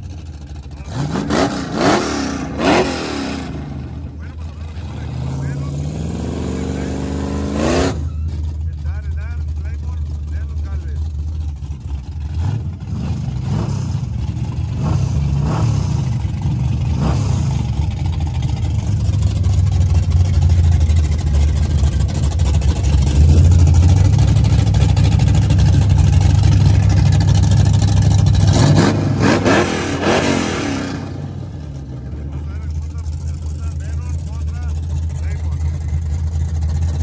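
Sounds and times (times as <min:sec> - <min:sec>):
drag race car engines revving: 0:00.0 - 0:37.0.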